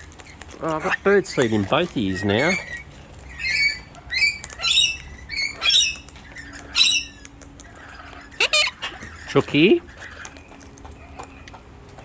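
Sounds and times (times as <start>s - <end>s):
parrots squawking: 0.0s - 11.6s.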